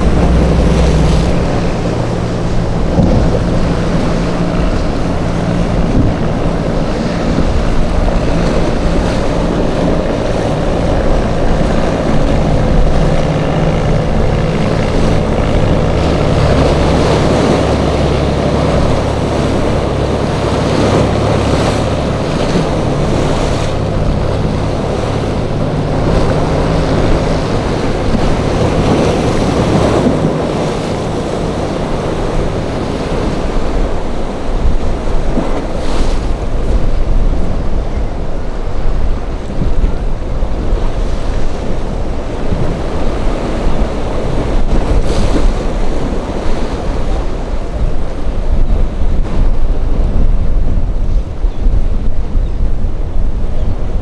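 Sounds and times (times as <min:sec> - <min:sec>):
boat engines humming: 0:00.0 - 0:54.0
surf wash: 0:00.0 - 0:54.0
wind buffeting microphone: 0:00.0 - 0:54.0.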